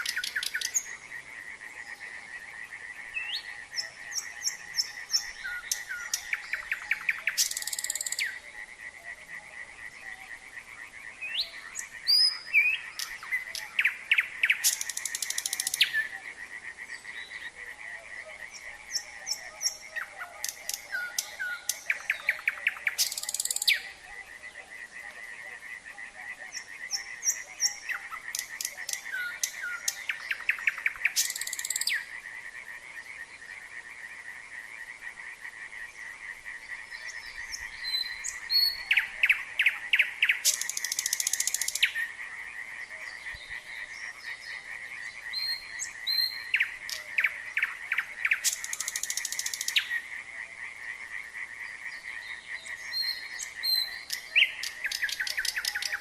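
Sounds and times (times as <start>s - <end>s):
nightingale singing: 0.0s - 33.7s, 34.9s - 56.0s
frogs trilling chorus: 0.0s - 56.0s.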